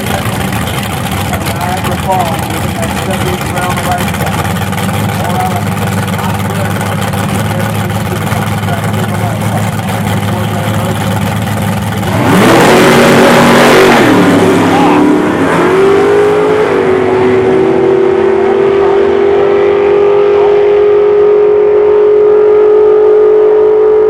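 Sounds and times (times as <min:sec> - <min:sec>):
drag car engine at full throttle: 0:00.0 - 0:24.0.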